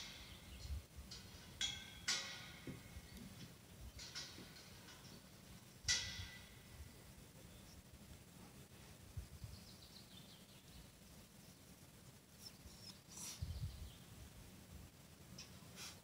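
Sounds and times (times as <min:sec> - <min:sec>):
faint distant birds chirping: 0:00.0 - 0:16.0.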